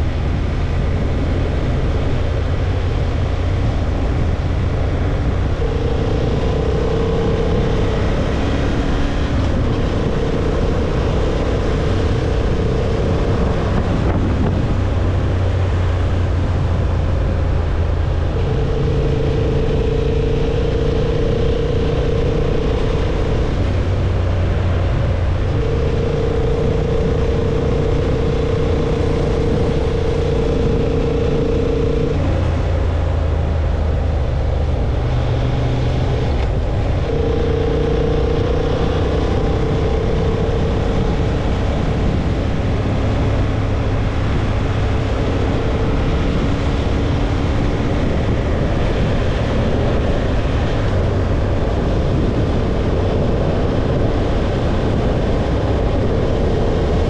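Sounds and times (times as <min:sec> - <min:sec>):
constant rushing noise: 0:00.0 - 0:57.0
motorcycle engine running: 0:00.0 - 0:57.0.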